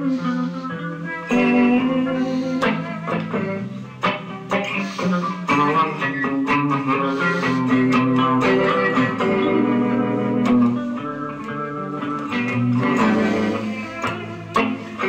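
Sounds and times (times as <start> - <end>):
blues guitar instrumental: 0.0 - 15.0.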